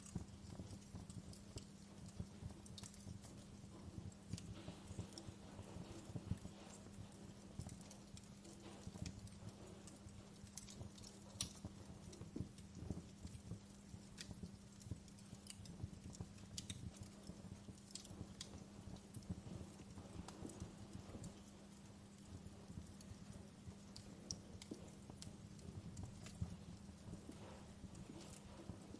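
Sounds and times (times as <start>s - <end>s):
low rumble of burning logs: 0.0s - 28.9s
wood fire crackling: 0.0s - 28.9s.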